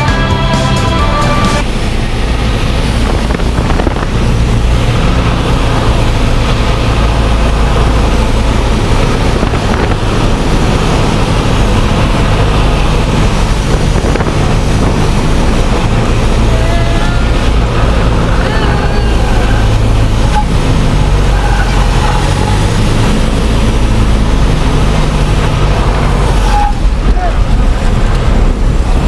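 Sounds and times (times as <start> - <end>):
light aircraft engine and propeller: 0.0 - 29.0
wind noise: 0.0 - 29.0.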